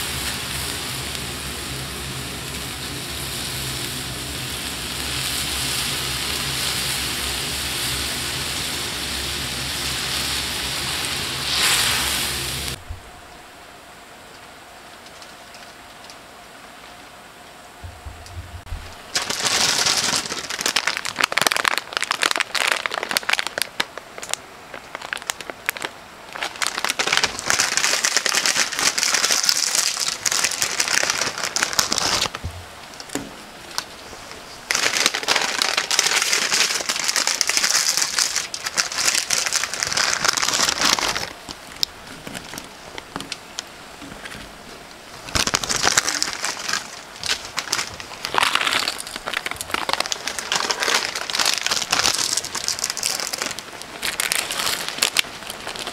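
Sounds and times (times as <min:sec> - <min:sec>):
broth sizzling and bubbling in pan: 0:00.0 - 0:13.0, 0:18.6 - 0:55.9.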